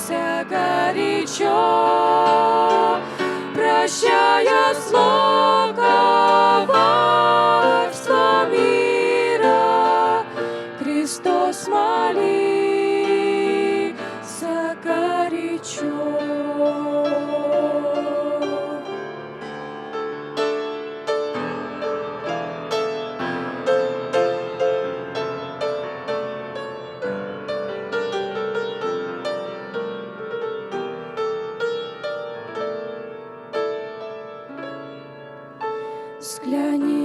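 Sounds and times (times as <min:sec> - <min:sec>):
piano playing hymn: 0:00.0 - 0:37.0.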